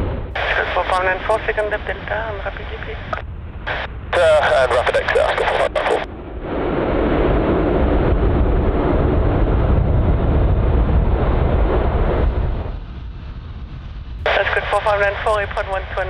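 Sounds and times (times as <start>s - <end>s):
turboprop aircraft engines rumbling: 0.0s - 16.0s.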